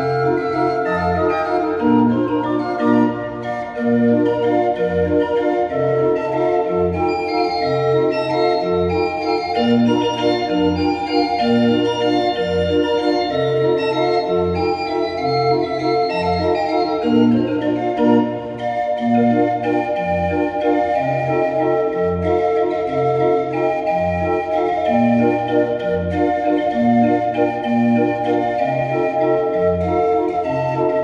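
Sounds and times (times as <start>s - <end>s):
organ playing folk tune: 0.0s - 31.0s.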